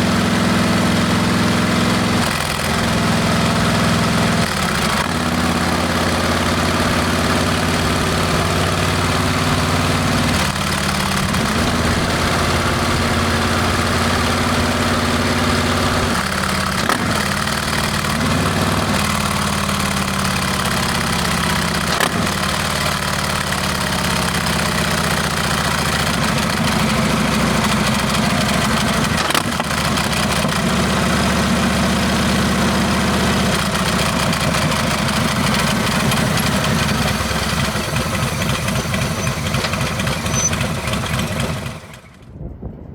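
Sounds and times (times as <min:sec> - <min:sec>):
motorcycle exhaust revving: 0:00.0 - 0:42.2.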